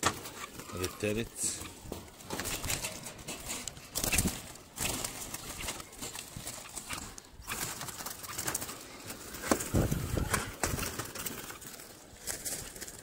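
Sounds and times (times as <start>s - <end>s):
pigeons cooing: 0.0s - 13.0s
wire bird cage clattering: 0.0s - 13.0s.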